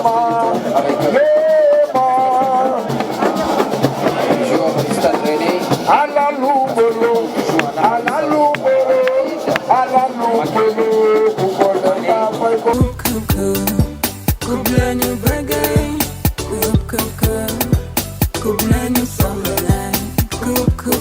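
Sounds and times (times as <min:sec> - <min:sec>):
loud music with drums: 0:00.0 - 0:21.0
voices: 0:00.0 - 0:21.0.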